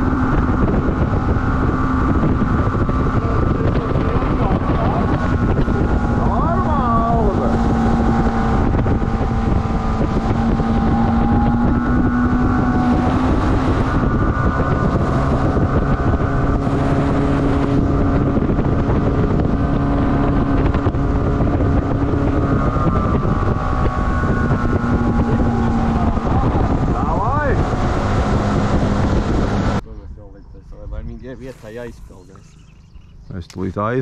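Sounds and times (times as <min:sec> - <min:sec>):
motorboat engine humming: 0:00.0 - 0:34.0
wind noise on microphone: 0:00.0 - 0:34.0.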